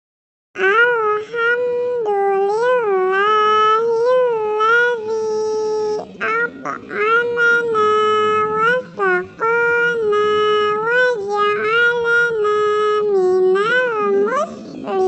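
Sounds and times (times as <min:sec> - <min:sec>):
high cat-like voice chanting: 0:00.6 - 0:15.0.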